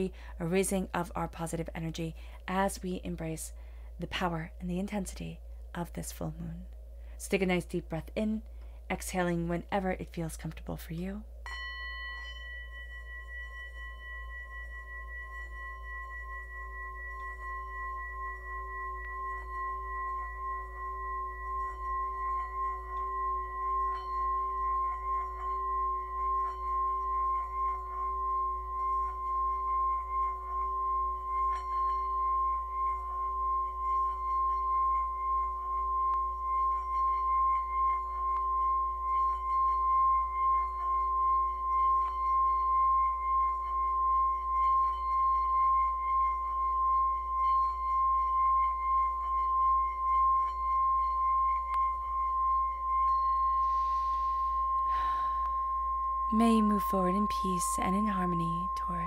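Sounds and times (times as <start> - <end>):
singing bowl ringing: 0.0 - 59.0.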